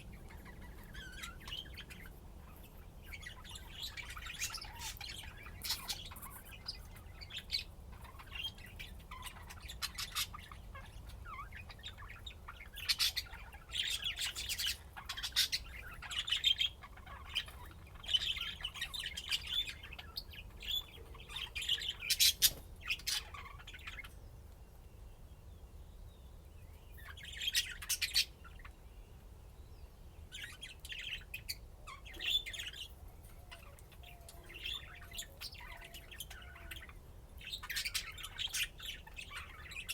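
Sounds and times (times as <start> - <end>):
budgerigars chirping and warbling: 0.0 - 24.2, 26.9 - 28.8, 30.2 - 39.9.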